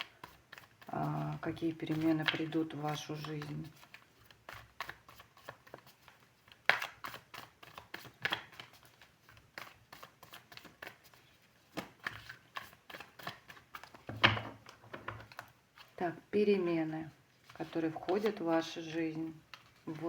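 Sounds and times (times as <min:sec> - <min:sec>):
cards being shuffled: 0:00.0 - 0:16.0, 0:17.4 - 0:20.0.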